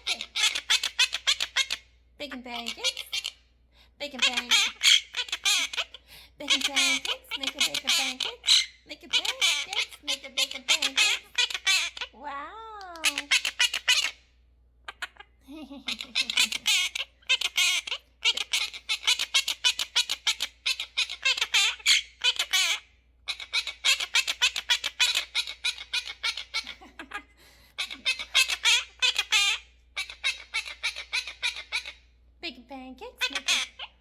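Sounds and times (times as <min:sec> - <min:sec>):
parrot squawking: 0:00.0 - 0:32.2, 0:32.8 - 0:34.0.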